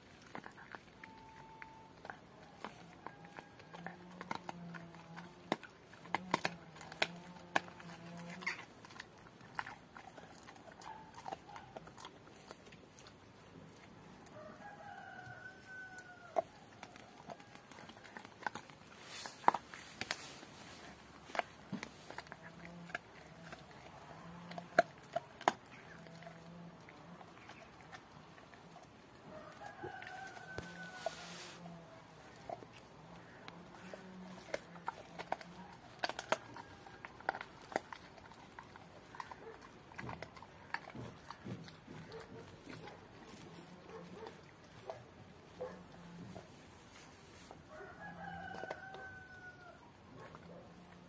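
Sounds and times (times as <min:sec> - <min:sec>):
dog teeth cracking on bone: 0:00.0 - 0:31.0, 0:32.0 - 0:46.5, 0:48.1 - 0:51.0.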